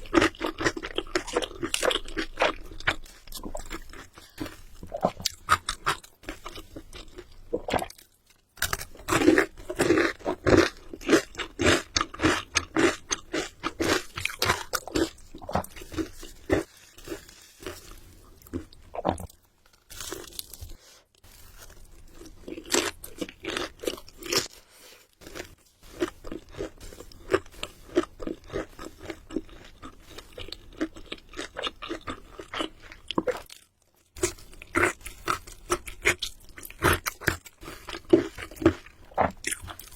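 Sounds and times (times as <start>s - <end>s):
chewing crispy food: 0.0s - 39.9s.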